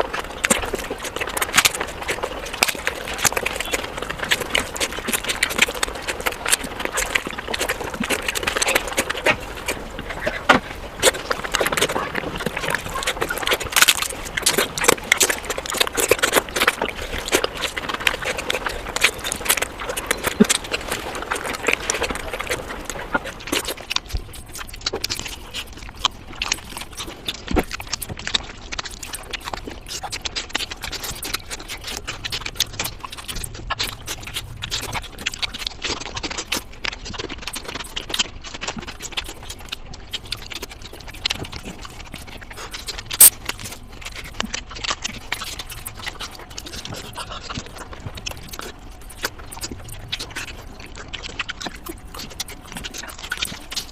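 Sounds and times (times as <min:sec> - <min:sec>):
wet chewing and lip smacking: 0:00.0 - 0:53.9.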